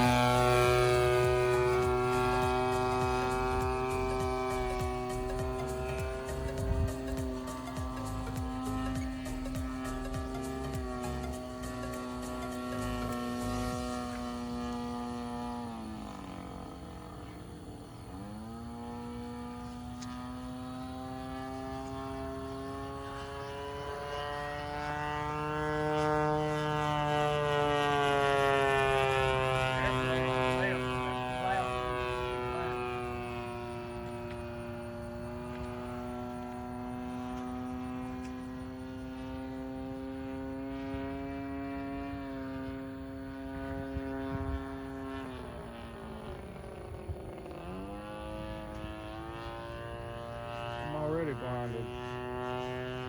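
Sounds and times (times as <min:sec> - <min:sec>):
model plane engine and propeller: 0:00.0 - 0:53.0.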